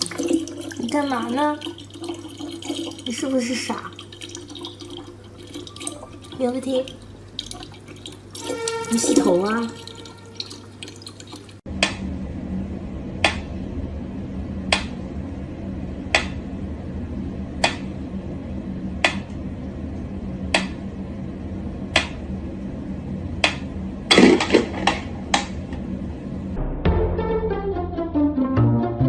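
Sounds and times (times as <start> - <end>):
steady low hum: 0.0 - 28.3.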